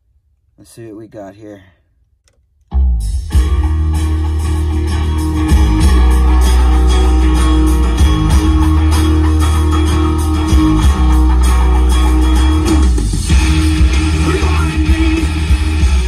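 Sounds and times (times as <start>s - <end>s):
song through car stereo: 2.7s - 16.0s.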